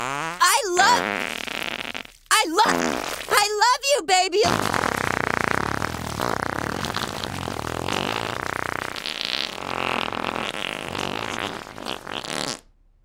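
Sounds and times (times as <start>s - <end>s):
cartoon fart sound effect: 0.0s - 3.4s, 4.4s - 12.7s.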